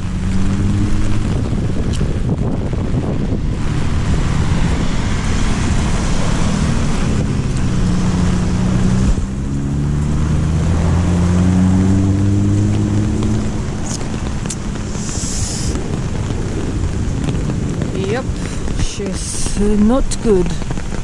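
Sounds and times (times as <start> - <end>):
vehicle engine speeding up: 0.0 - 20.2
heavy rain: 0.0 - 21.0.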